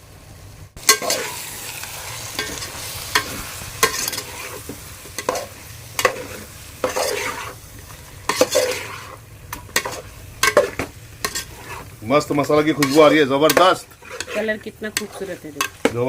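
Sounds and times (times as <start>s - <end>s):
food sizzling in oil: 0.0s - 16.0s
spoon scraping a pan: 0.8s - 16.0s.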